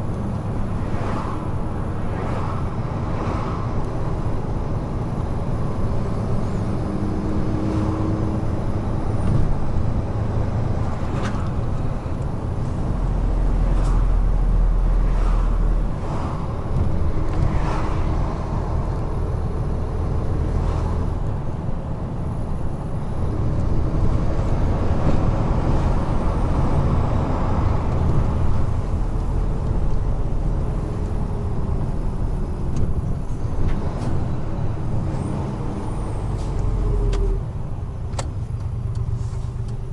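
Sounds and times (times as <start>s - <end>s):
road rumble: 0.0s - 39.9s
truck diesel engine drone: 0.0s - 39.9s.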